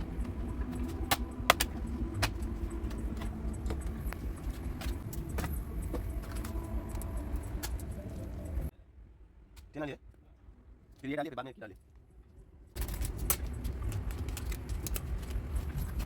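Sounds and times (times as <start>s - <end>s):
steady low rumble: 0.0s - 9.6s, 12.2s - 16.0s.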